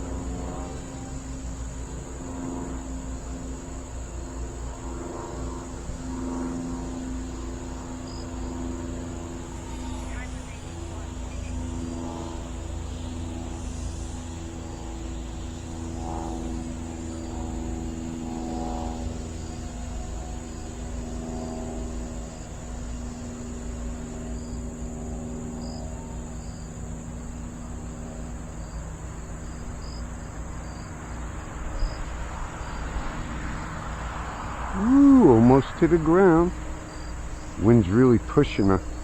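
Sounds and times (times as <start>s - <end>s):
crickets chirping: 0.0s - 39.0s
model plane motor buzzing: 0.0s - 39.0s.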